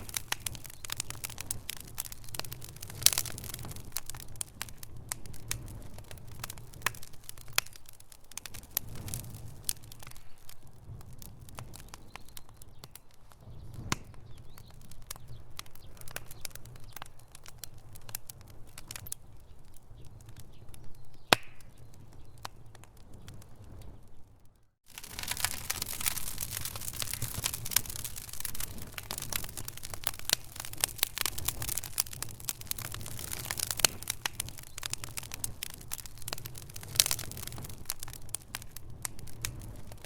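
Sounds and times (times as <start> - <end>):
low rumble of flames: 0.0 - 40.0
wood fire crackling and popping: 0.0 - 40.0.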